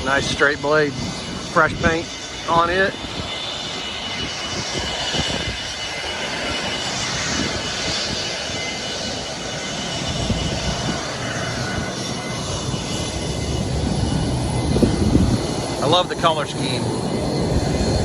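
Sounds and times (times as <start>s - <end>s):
propeller airplane engine running: 0.0s - 18.0s.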